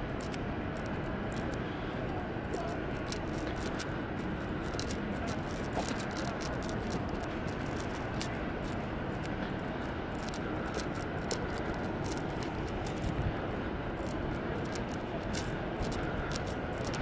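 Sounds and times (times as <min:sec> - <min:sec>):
city street rumble: 0:00.0 - 0:17.0.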